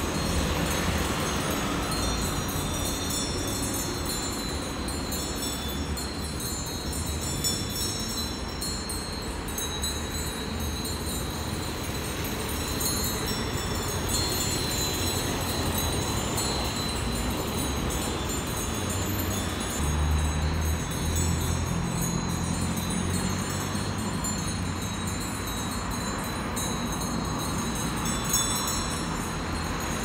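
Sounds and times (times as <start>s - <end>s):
high-pitched metallic chiming: 0.0s - 30.0s.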